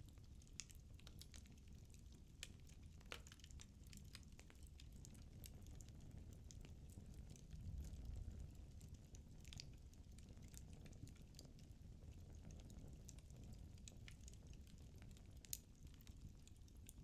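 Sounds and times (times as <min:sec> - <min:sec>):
low rumble of flames: 0:00.1 - 0:17.0
firewood crackling and popping: 0:00.2 - 0:17.0.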